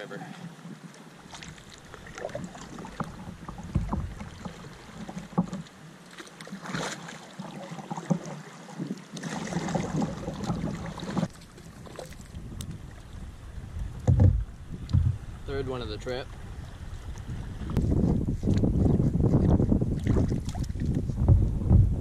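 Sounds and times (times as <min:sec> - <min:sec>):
paddle splashing in water: 0:00.4 - 0:15.4, 0:16.3 - 0:21.5.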